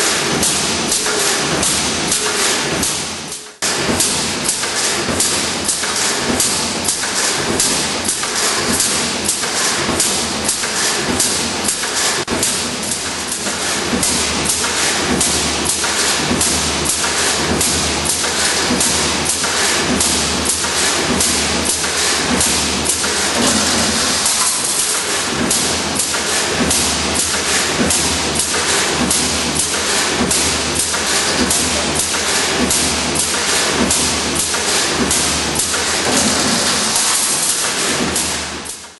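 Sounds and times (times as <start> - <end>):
mechanical thumps: 0.0 - 38.9.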